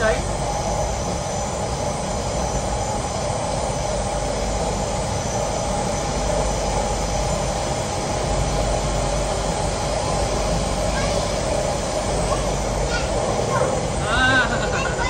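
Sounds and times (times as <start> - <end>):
mid-pitched whine: 0.0 - 15.0
train wheels rumbling on track: 0.0 - 15.0.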